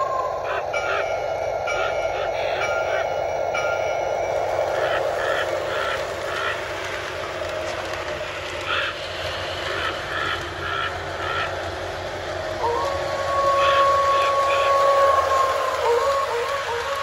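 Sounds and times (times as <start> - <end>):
model train humming: 0.0 - 17.0
wheels clicking over track joints: 0.0 - 17.0.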